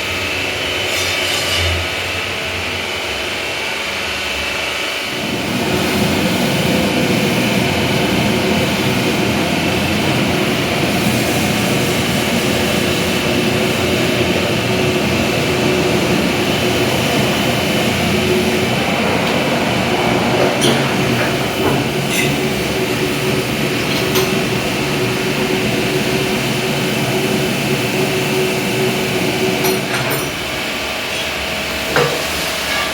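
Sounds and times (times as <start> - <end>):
heavy motor running: 0.0 - 32.9.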